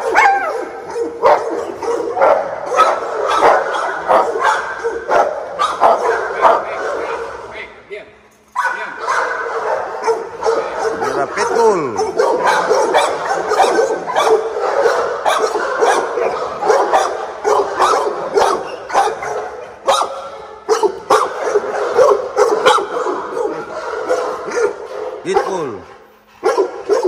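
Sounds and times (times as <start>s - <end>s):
dogs barking: 0.0s - 7.8s, 8.6s - 27.0s.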